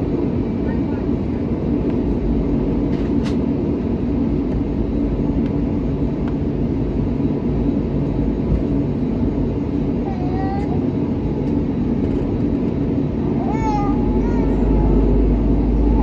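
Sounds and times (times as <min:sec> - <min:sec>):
jet engines heard inside cabin: 0:00.0 - 0:16.0.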